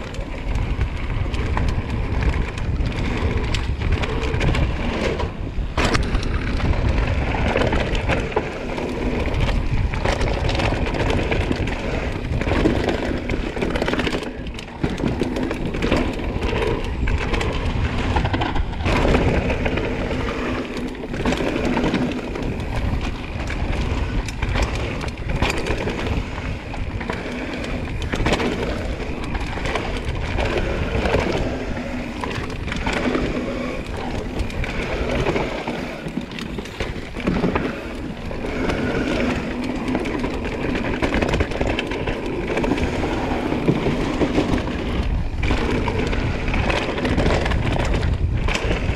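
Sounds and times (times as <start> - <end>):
bike knocks and rattles: 0.0 - 48.9
bike tyres scrabbling on dirt: 0.0 - 48.9
steady rushing noise: 0.0 - 48.9.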